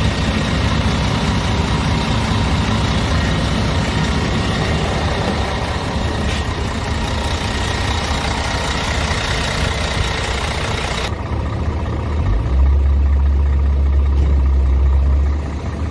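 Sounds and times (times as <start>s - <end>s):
diesel truck engine idling: 0.0s - 15.9s.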